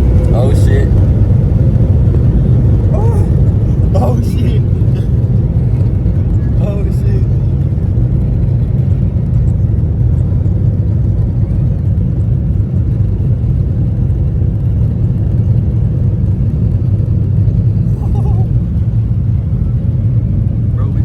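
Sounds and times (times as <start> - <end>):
jet engines low rumble in cabin: 0.0 - 21.0.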